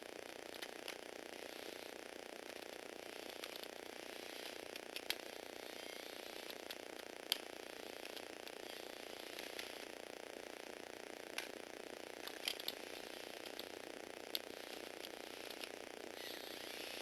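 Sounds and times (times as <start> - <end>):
electric motor driving plastic gears: 0.4 - 10.0, 11.2 - 17.0.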